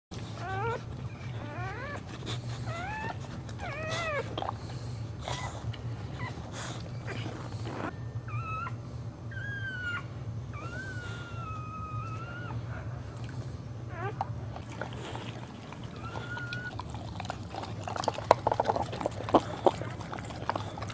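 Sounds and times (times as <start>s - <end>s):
steady low hum: 0.1s - 20.9s
dog whining: 0.2s - 13.2s, 13.8s - 20.9s.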